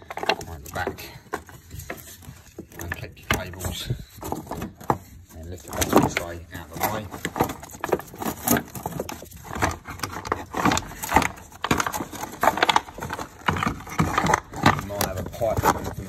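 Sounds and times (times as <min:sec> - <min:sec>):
plastic parts clunking and scraping: 0:00.0 - 0:16.0.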